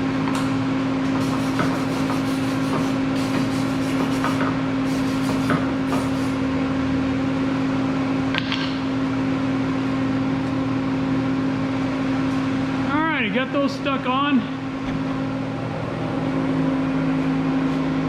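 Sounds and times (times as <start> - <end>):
low electrical machine hum: 0.0 - 18.0.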